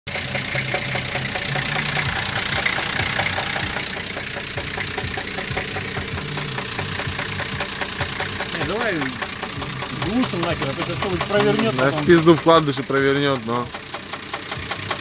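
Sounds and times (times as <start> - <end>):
car engine idling: 0.1 - 15.0
rapid engine knock: 0.1 - 15.0.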